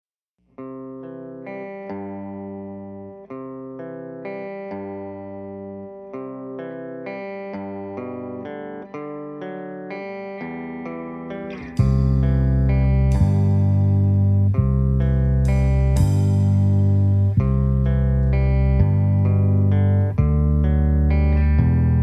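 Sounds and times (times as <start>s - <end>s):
guitar playing ringing notes: 0.6s - 22.0s.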